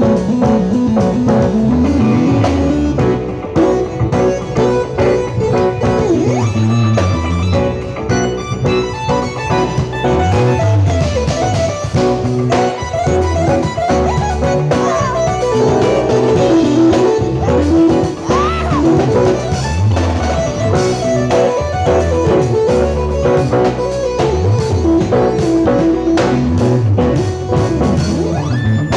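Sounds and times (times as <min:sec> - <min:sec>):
drum kit with cymbals: 0:00.0 - 0:28.9
fast electric guitar lines: 0:00.0 - 0:28.9.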